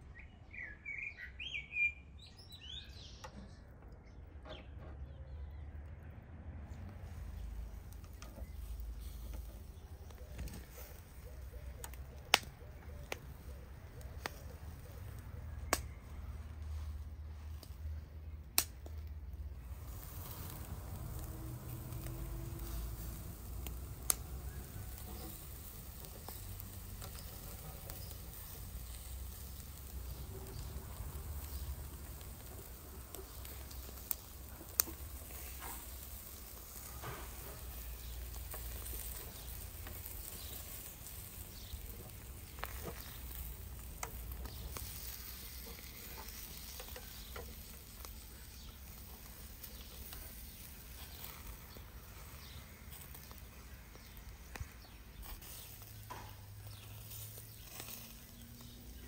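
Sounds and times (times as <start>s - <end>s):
crackles: 5.9s - 59.0s
meat sizzling over charcoal grill: 6.9s - 59.0s.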